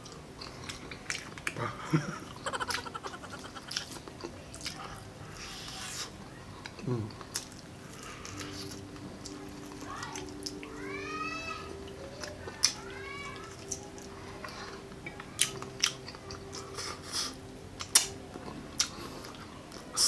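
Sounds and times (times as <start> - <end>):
crunchy chewing: 2.4 - 10.7, 11.8 - 20.0.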